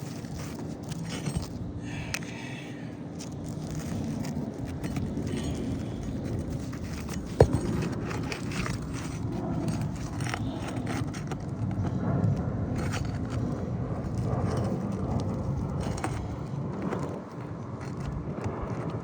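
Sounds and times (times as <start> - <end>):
steady low rumble: 0.0 - 18.7
hand tools scraping and clicking: 0.0 - 19.0.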